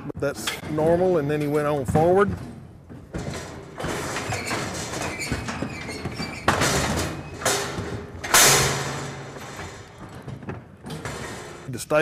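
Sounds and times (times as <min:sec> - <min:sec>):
metal gates clanging shut: 0:00.2 - 0:11.7.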